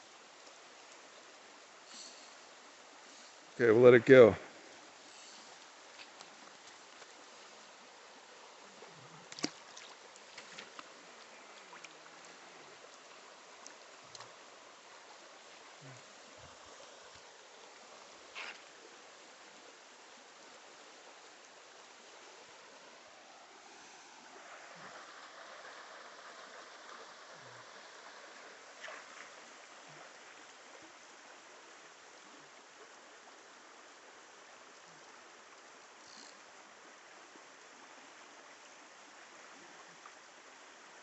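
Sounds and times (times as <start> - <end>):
creek rushing: 0.0 - 41.0.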